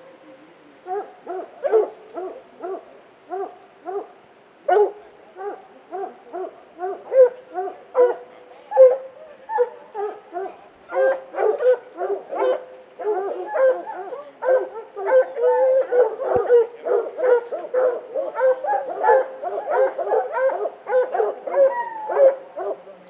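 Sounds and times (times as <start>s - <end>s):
hunting dogs barking: 0.8s - 23.0s.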